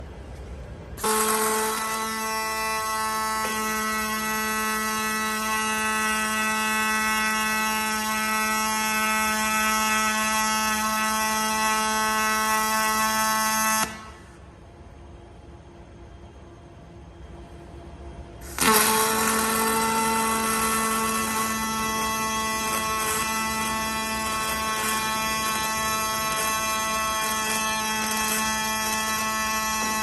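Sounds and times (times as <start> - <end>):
welding arc buzzing: 1.0 - 14.5, 18.4 - 30.0.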